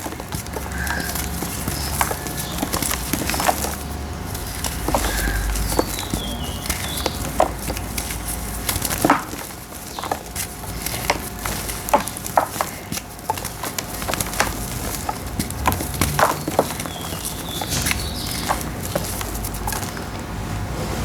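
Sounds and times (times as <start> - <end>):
dried dirt crumbling and crackling: 0.0 - 20.3.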